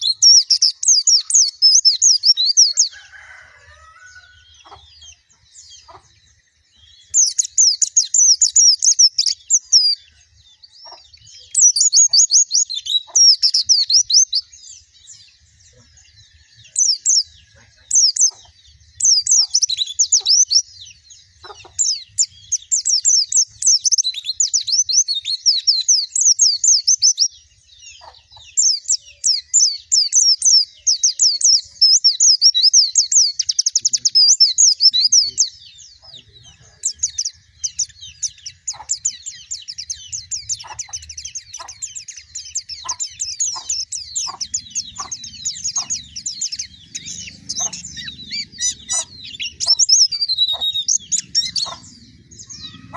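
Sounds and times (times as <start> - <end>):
bird twittering chirps: 0.0 - 52.9.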